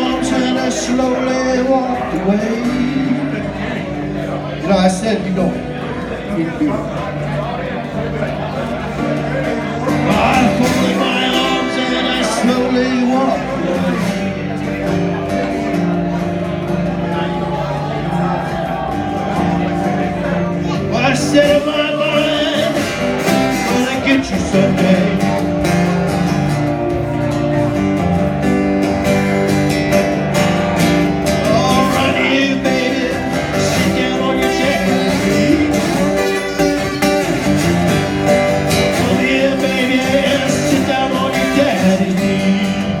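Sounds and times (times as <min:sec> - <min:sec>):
slide blues acoustic guitar: 0:00.0 - 0:43.0.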